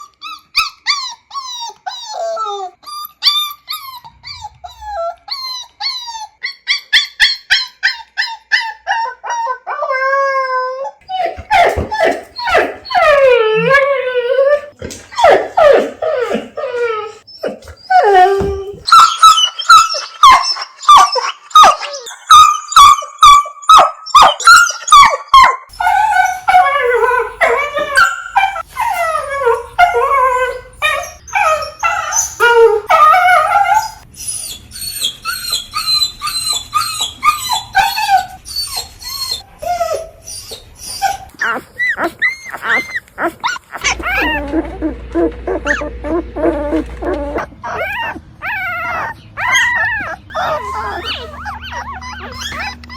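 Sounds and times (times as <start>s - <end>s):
dogs whining and crying: 0.0s - 52.9s.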